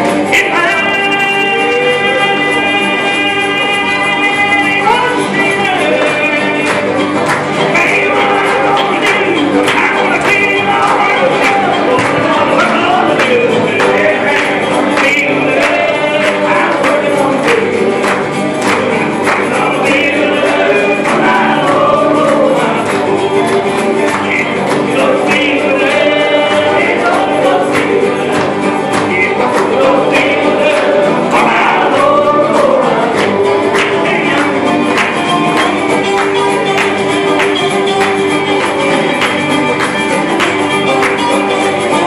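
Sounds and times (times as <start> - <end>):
group singing gospel song: 0.0 - 42.0
strummed acoustic guitars: 0.0 - 42.0.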